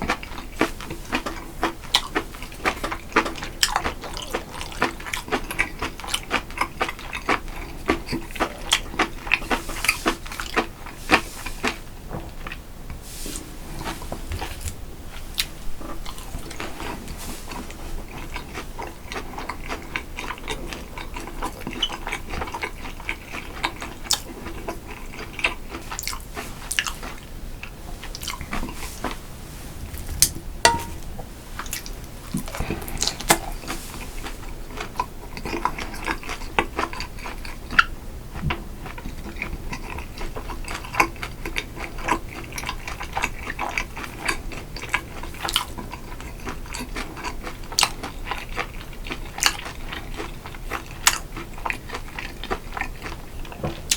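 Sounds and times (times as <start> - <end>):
person chewing food: 0.0 - 11.8, 13.6 - 53.9.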